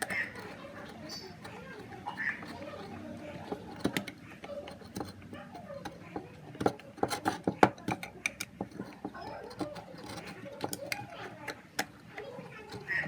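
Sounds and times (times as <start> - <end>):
small hard objects clicking: 0.0 - 13.0.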